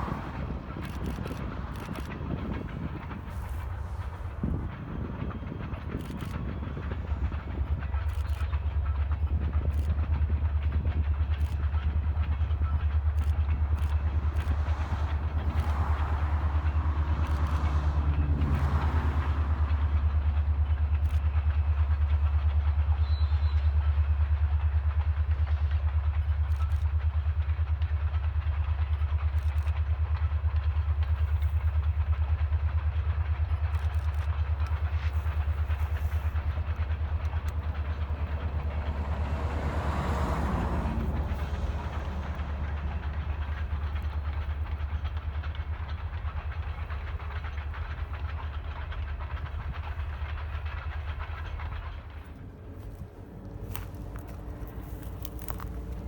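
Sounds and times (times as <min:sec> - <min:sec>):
train rumbling by: 0:00.0 - 0:56.0.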